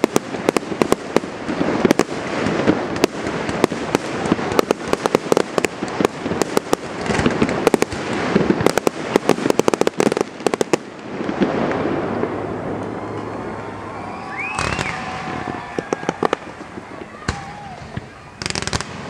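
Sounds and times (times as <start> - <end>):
fireworks bursts and crackling: 0.0 - 19.0
steady background noise: 0.0 - 19.0.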